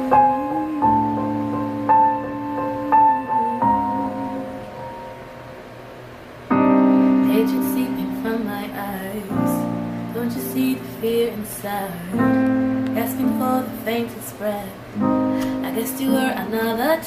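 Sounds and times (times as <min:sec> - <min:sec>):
slow piano chords and melody: 0:00.0 - 0:17.0.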